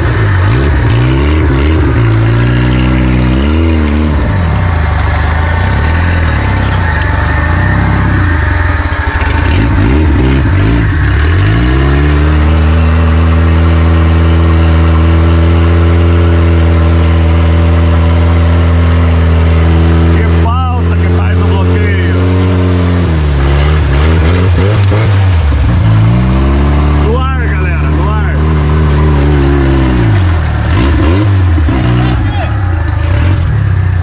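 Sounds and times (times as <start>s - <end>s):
vehicle engine revving: 0.0s - 34.0s.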